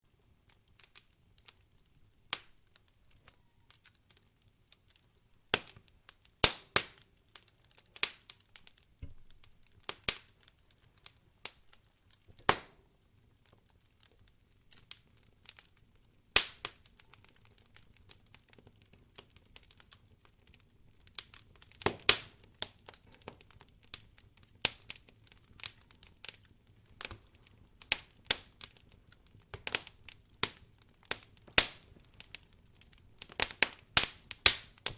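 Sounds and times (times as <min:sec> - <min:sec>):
campfire crackling and popping: 0:00.1 - 0:34.9.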